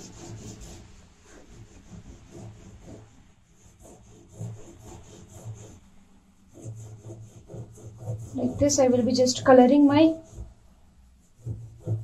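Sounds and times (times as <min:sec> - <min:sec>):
oil pastel scribbling on paper: 0:00.0 - 0:12.0.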